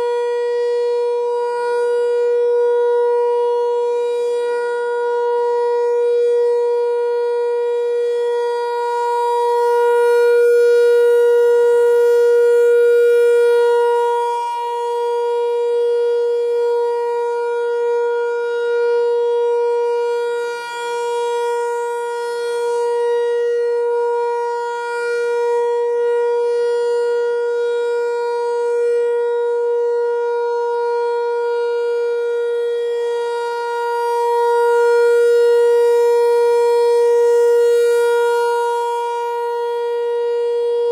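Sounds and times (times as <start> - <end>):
rotating siren steady tone: 0.0 - 40.9.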